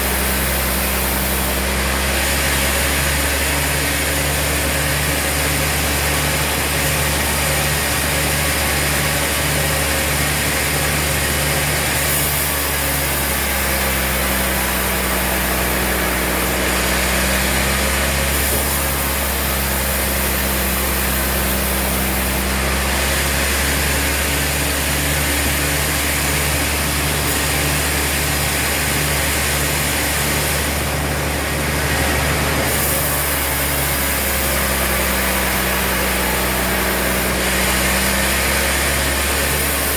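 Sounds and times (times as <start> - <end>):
sawmill motor drone: 0.0 - 39.9.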